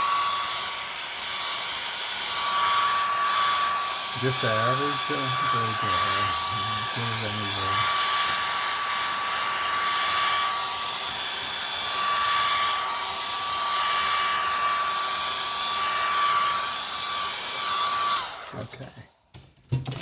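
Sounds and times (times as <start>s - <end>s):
electric blow dryer running: 0.0s - 18.7s.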